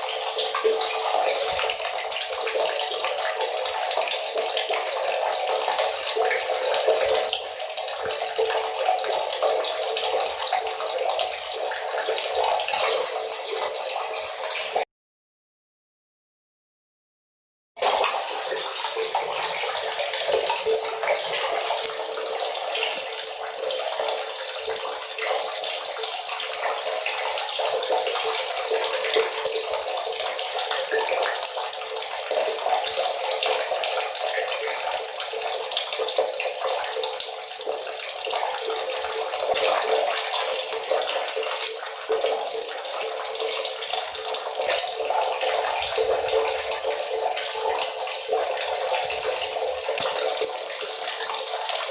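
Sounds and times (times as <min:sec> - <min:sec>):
water running from a tap: 0:00.0 - 0:14.9, 0:17.8 - 0:51.9.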